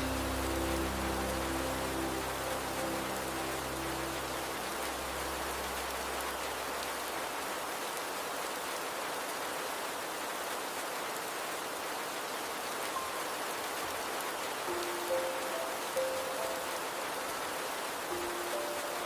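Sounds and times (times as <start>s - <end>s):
flowing water: 0.0s - 19.0s
steady rain falling: 0.0s - 19.0s.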